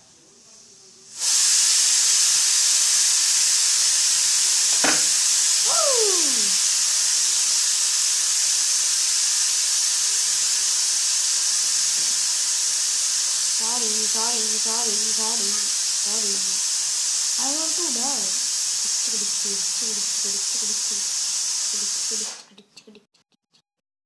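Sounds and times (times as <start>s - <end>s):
loud steady hiss: 0.0s - 22.5s.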